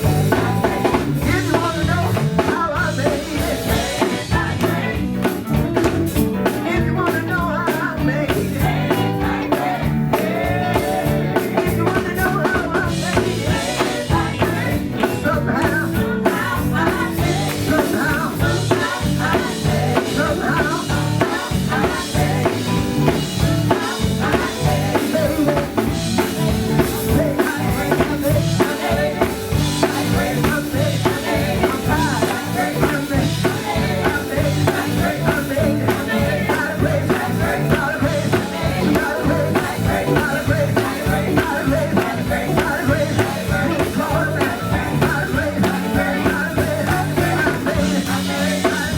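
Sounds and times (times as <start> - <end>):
singing: 0.0 - 5.6, 6.4 - 48.9
drum kit beat: 0.0 - 48.9
gospel band playing: 0.0 - 48.9.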